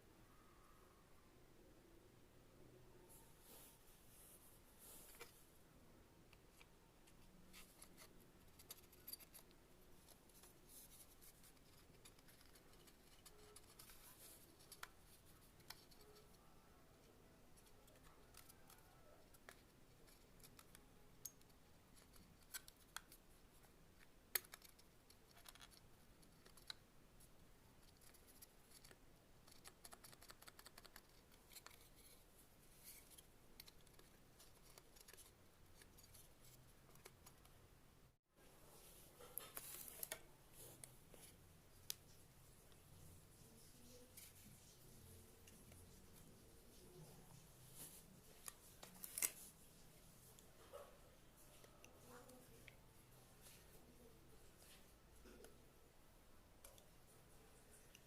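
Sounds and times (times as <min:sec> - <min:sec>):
faint clicks and scratches: 0:03.1 - 0:05.6, 0:06.2 - 0:37.7, 0:38.4 - 0:58.0.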